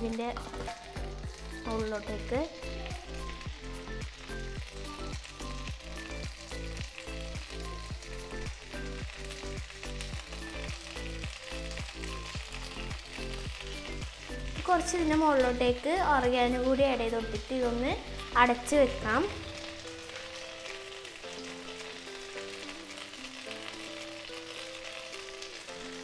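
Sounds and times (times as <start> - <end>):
fries sizzling in frying pan: 0.0 - 26.0.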